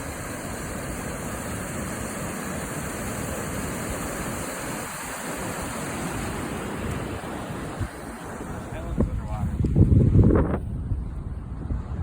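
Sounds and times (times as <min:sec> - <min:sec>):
floodwater rushing through dam: 0:00.0 - 0:10.2.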